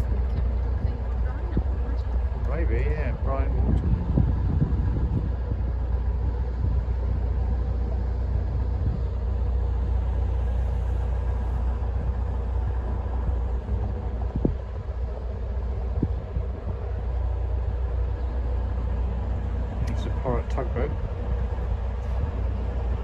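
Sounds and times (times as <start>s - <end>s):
boat engine low rumble: 0.0s - 23.0s.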